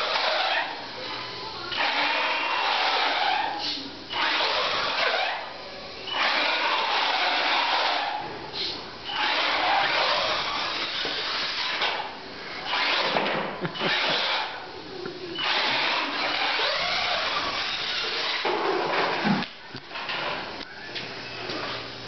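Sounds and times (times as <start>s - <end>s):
electric motor and drivetrain whirring: 0.0s - 22.0s.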